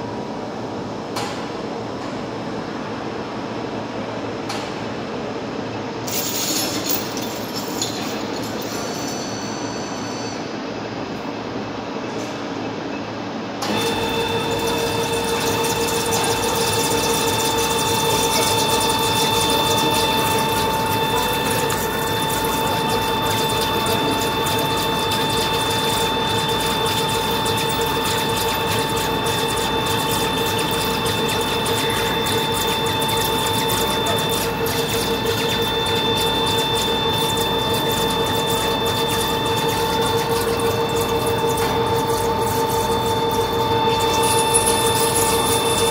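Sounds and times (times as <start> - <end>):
multi-tone machine whine: 5.6 - 45.9.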